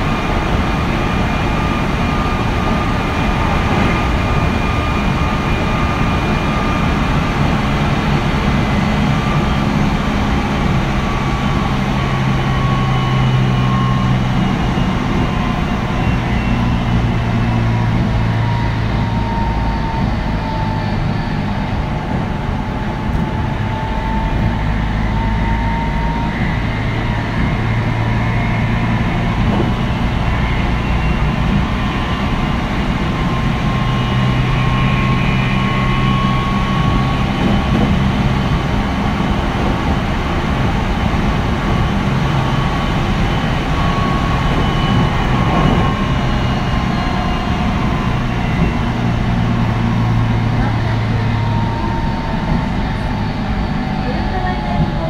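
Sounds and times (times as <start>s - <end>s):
traction motor whine: 0.0s - 55.0s
train wheels rumbling on rail: 0.0s - 55.0s.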